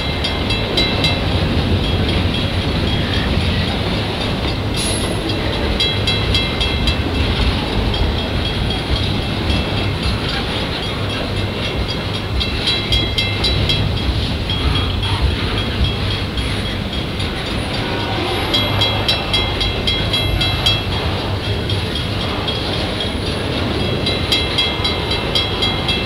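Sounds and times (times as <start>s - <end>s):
freight wheels rumbling on rail: 0.0s - 26.0s.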